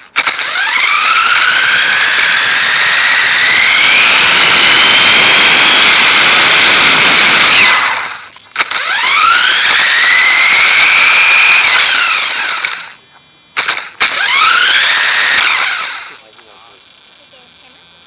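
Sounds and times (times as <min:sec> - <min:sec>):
gear noise: 0:00.0 - 0:13.0, 0:13.6 - 0:17.1
electric motor whining: 0:00.0 - 0:18.0.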